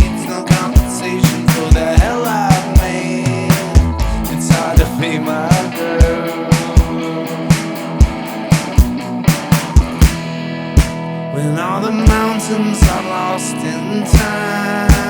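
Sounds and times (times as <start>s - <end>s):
electronic drum kick and snare: 0.0s - 11.1s, 12.1s - 13.2s, 14.2s - 15.0s
guitar chords: 0.0s - 15.0s
sliding guitar notes: 0.0s - 15.0s.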